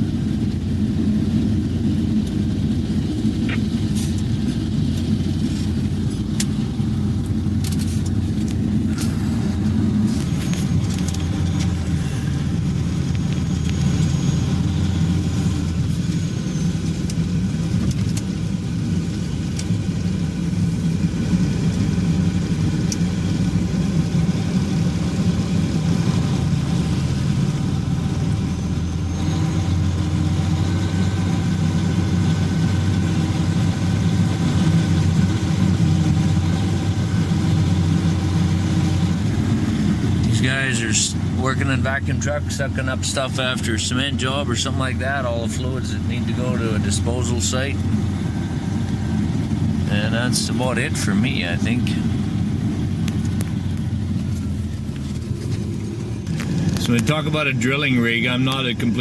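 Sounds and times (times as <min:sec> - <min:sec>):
truck engine droning: 0:00.0 - 0:59.0.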